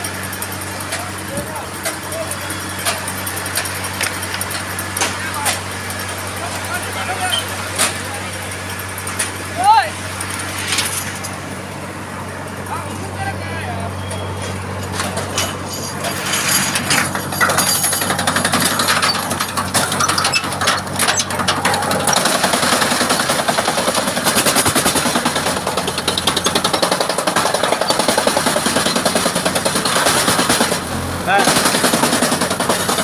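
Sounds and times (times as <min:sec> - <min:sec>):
loud rapid rattling clatter: 0:00.0 - 0:13.3, 0:14.7 - 0:33.0
wood chipper running: 0:00.0 - 0:33.0.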